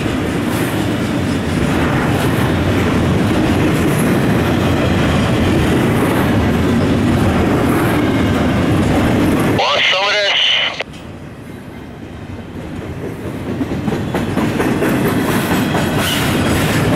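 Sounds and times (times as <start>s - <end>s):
steel wheels rumbling on rail: 0.0s - 9.6s, 10.9s - 16.9s.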